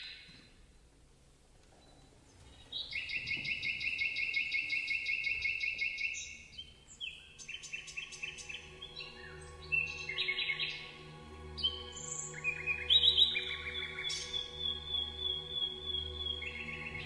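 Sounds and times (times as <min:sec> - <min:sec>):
bird chirping song: 0:00.0 - 0:00.7, 0:01.7 - 0:17.0
low orchestral notes: 0:02.4 - 0:17.0.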